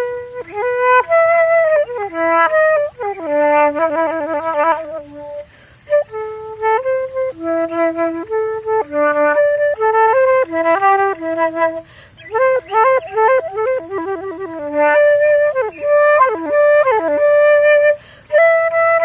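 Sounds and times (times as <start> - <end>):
solo flute melody: 0.0 - 19.0.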